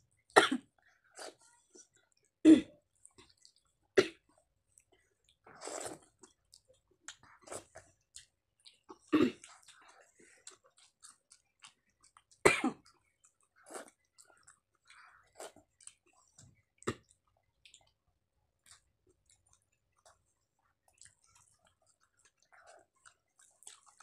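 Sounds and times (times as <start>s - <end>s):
people chewing: 0.1s - 24.0s.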